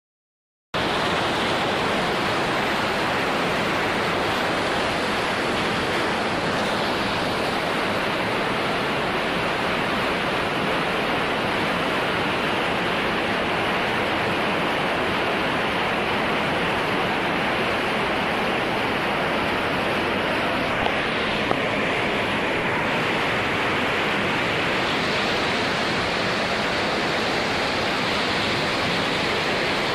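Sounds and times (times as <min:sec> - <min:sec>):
floodwater rushing: 0:00.8 - 0:29.9.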